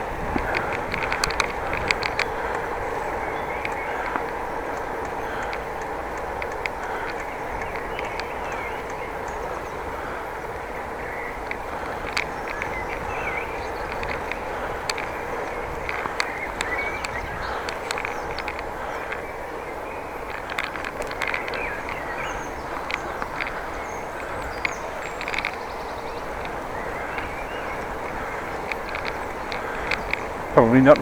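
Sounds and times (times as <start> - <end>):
bicycle clicks and rattles: 0.0 - 31.0
tyre and wind noise: 0.0 - 31.0.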